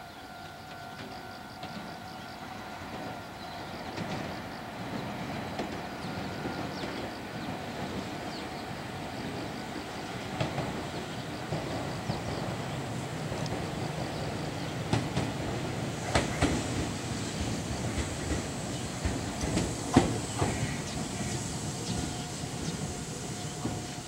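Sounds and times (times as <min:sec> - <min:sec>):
train rail noise: 0:00.0 - 0:24.0.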